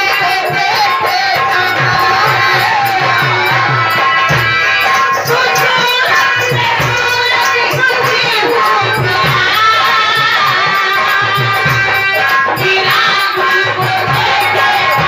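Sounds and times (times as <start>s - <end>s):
hand drum beating: 0.0s - 15.0s.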